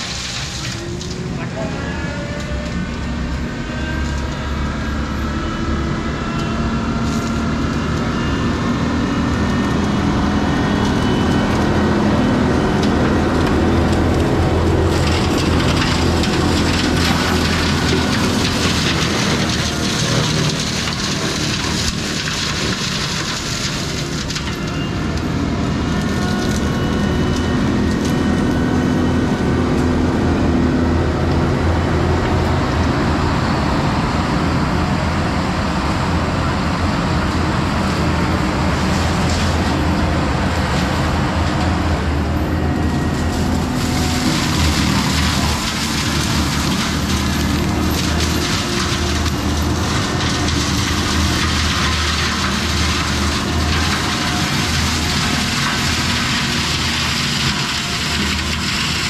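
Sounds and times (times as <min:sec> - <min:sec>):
grinding shredding of brush and wood: 0:00.0 - 0:04.3, 0:05.8 - 0:32.0, 0:37.8 - 0:59.0
diesel engine under load: 0:00.0 - 0:59.0.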